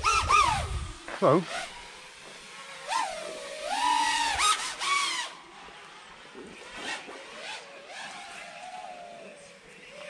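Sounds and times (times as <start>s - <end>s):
quadcopter motors whining: 0.0s - 10.0s.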